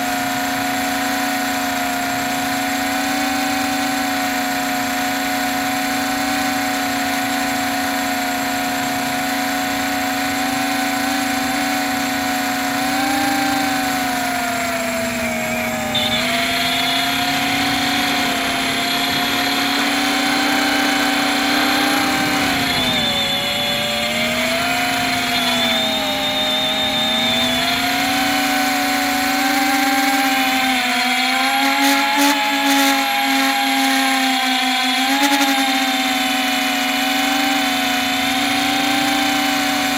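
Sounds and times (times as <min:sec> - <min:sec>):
quadcopter propellers whining: 0:00.0 - 0:39.9.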